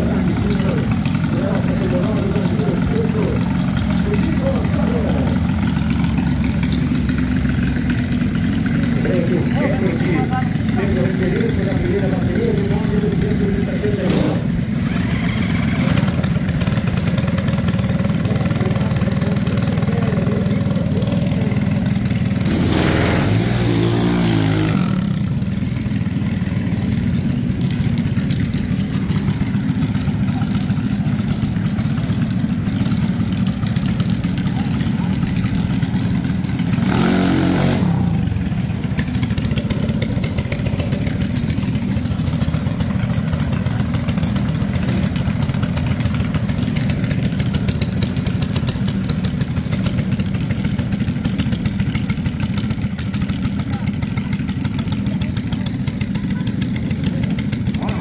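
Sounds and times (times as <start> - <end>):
dragster engines rumbling and revving: 0.0 - 58.0.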